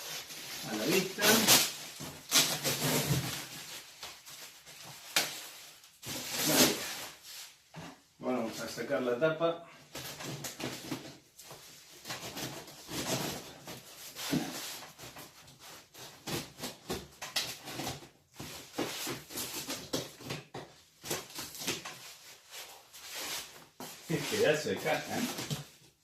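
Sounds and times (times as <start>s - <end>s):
cardboard rustling and scraping: 0.0s - 8.0s, 9.9s - 26.0s.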